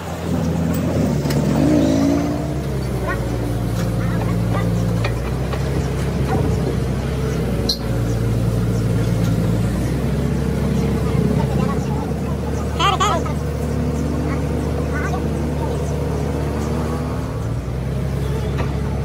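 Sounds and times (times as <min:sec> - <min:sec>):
heavy machinery engine idling: 0:00.0 - 0:19.0.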